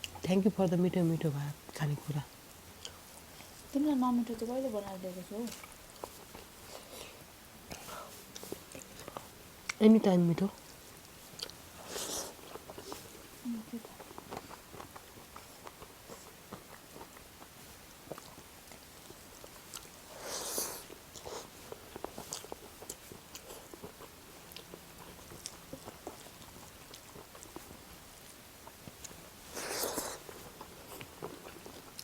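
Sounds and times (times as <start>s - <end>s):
chewing food: 0.0s - 32.0s.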